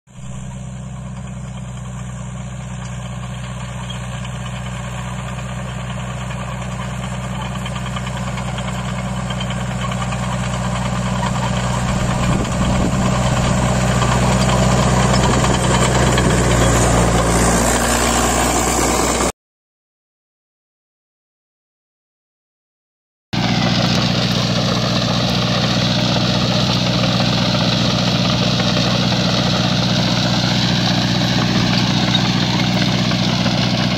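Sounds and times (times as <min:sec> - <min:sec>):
tractor diesel engine running: 0:00.1 - 0:19.3, 0:23.4 - 0:33.9.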